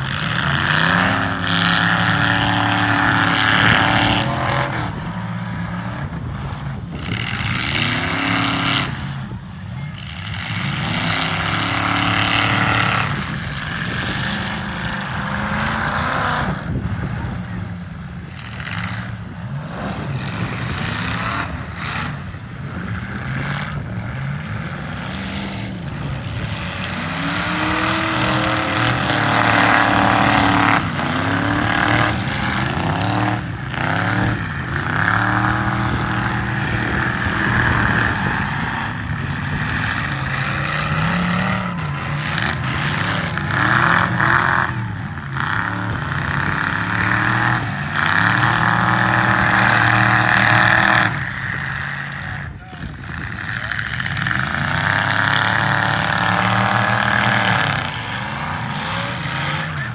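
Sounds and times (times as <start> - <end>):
car engines revving: 0.0 - 59.9
cars hitting each other: 0.0 - 59.9.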